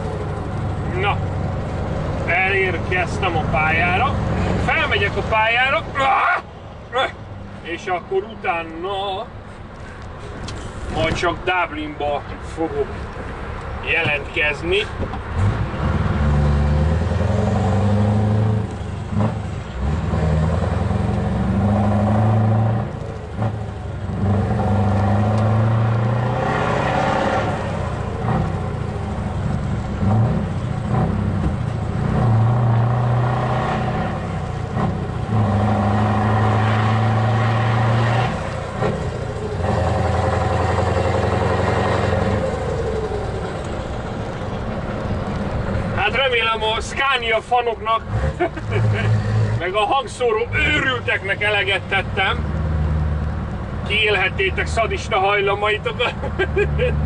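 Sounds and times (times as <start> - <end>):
truck engine under load: 0.0 - 6.0, 12.2 - 57.0.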